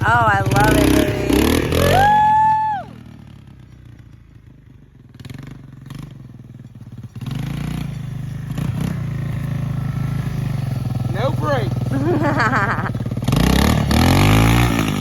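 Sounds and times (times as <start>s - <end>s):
three-wheeler engine running: 0.0s - 15.0s.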